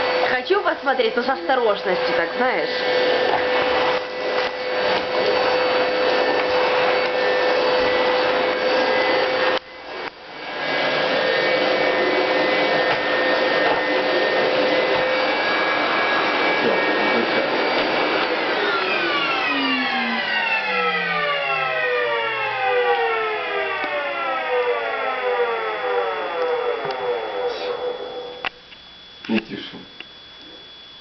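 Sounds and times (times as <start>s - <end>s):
vacuum cleaner running: 0.0s - 31.0s
whining tones sliding downward: 1.5s - 31.0s.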